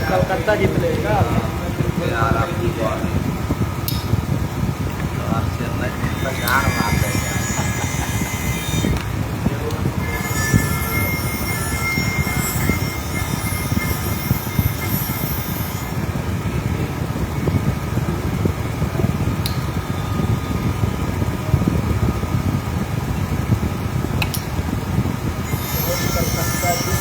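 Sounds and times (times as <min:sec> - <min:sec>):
machinery low rumble: 0:00.0 - 0:27.0.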